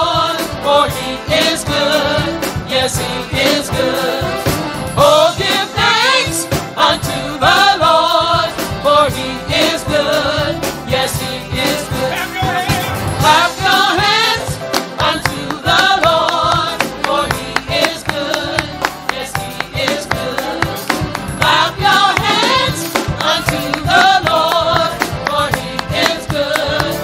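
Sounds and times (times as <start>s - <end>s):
choir singing in harmony: 0.0s - 27.0s
drums: 0.0s - 27.0s
keyboards: 0.0s - 27.0s.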